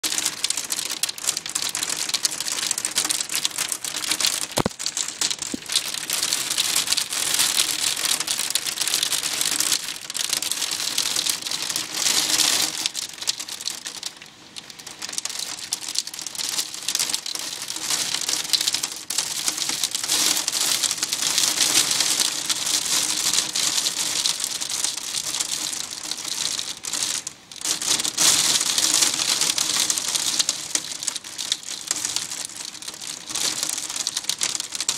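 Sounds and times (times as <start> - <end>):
hailstones pelting: 0.0 - 34.9.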